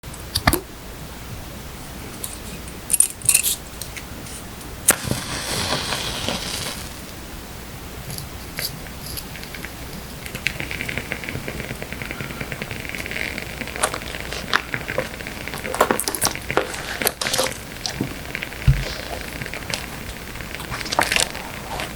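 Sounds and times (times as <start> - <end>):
rapid fine crackling: 1.2 - 21.9.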